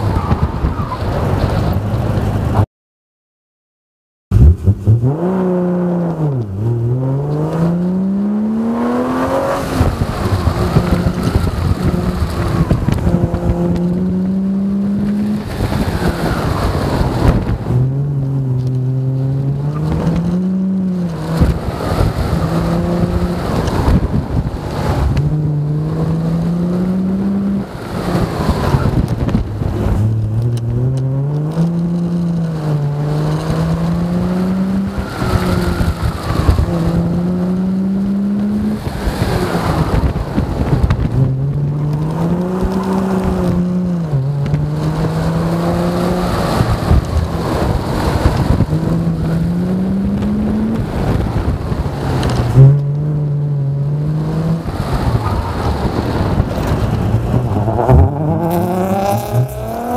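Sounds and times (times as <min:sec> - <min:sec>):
car engine revving: 0:04.3 - 0:59.9.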